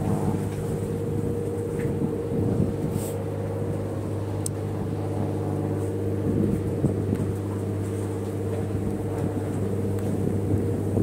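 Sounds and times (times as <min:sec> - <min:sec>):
low engine-like drone: 0:00.0 - 0:11.0.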